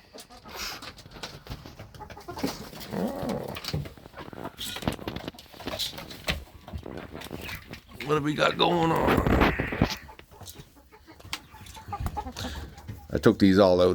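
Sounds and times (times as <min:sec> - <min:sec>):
hens clucking: 0:00.0 - 0:13.9.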